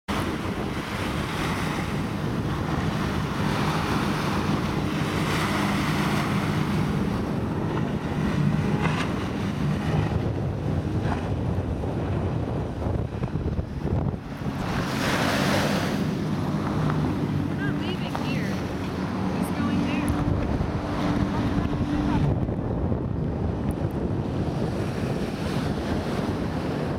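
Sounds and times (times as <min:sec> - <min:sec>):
outboard motor drone: 0:00.1 - 0:26.9
waves: 0:00.1 - 0:26.9
wind noise on microphone: 0:00.1 - 0:26.9.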